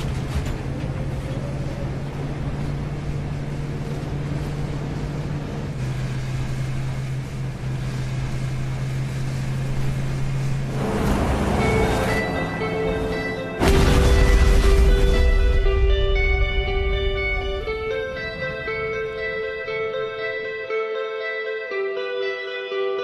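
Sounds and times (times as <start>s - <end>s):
low engine drone: 0.0s - 20.8s.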